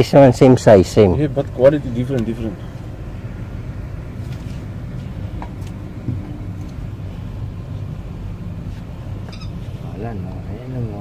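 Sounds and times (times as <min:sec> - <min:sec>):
low rumble: 0:01.8 - 0:11.0.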